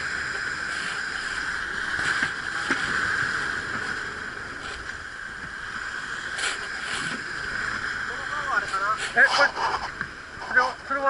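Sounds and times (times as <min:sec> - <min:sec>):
boat engine running: 0:00.0 - 0:11.0
sea noise: 0:00.0 - 0:11.0
wind: 0:00.0 - 0:11.0.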